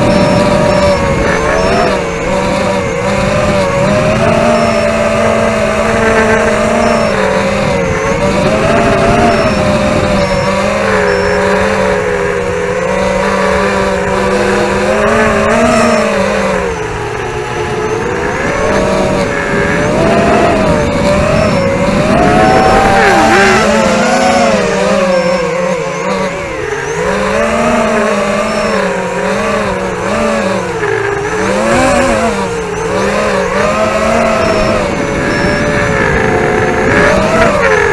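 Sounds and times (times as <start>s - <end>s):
quadcopter motors whining: 0.0s - 37.9s.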